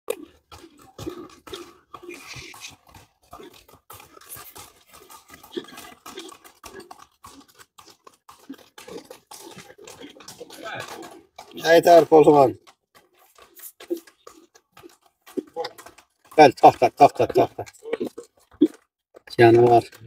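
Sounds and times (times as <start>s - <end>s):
horse hooves on gritty street: 0.1s - 20.0s.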